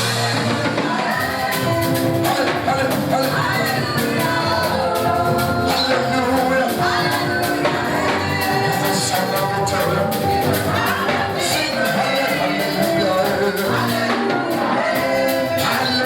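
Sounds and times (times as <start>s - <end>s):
band with steady beat: 0.0s - 16.0s
gospel singing voices: 0.0s - 16.0s.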